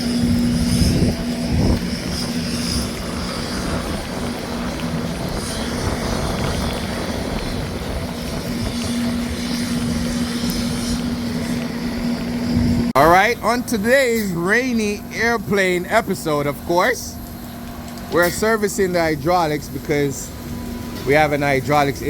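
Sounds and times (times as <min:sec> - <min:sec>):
aircraft engine running: 0:00.0 - 0:22.0.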